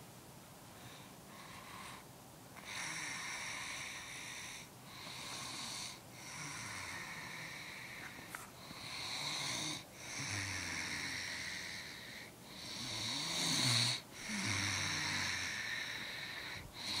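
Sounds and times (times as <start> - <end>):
person snoring: 2.6 - 17.0.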